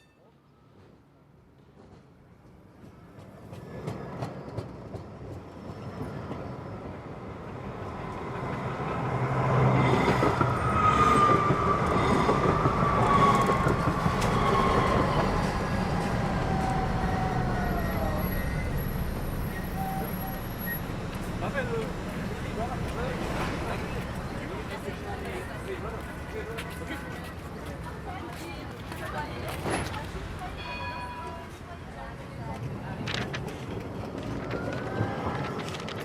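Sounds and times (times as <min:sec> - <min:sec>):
tram running noise: 0:00.0 - 0:36.0.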